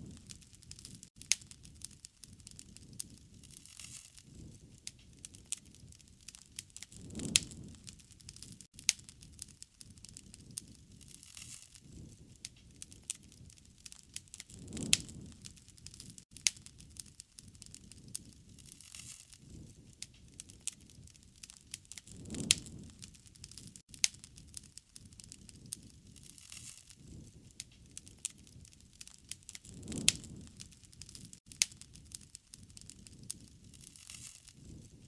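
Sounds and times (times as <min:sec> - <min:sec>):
low flame rumble: 0:00.0 - 0:35.0
wood fire crackling: 0:00.0 - 0:35.0.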